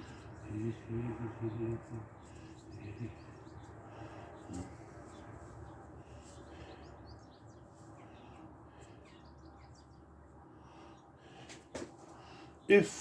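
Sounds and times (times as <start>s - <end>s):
faint birdsong chirps: 0.0s - 13.0s.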